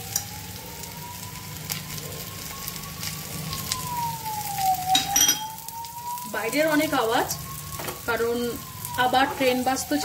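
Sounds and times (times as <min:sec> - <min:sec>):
outside traffic noise: 0:00.0 - 0:10.0
potatoes sizzling in oil: 0:00.0 - 0:10.0
wailing siren-like tone: 0:00.0 - 0:10.0.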